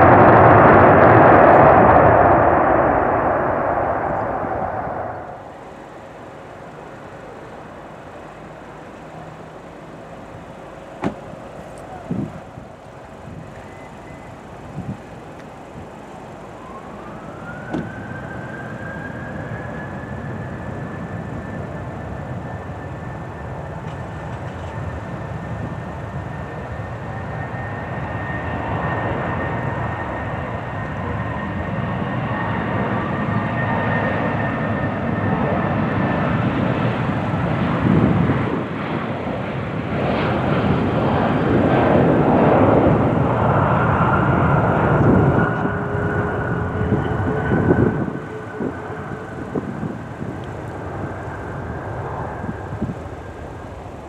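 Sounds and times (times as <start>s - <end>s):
jet engine roar: 0.0s - 54.0s
jet engine whine: 0.0s - 54.0s.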